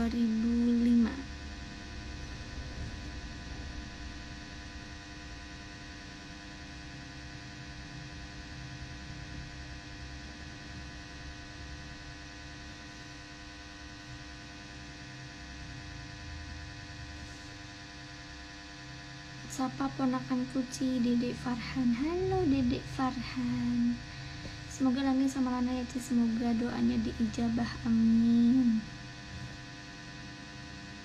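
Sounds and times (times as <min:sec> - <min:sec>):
electrical buzz: 0:00.0 - 0:31.0.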